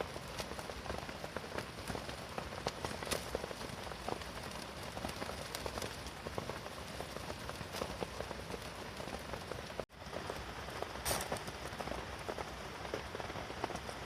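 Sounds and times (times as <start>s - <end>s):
rain on a tent: 0.0s - 14.0s.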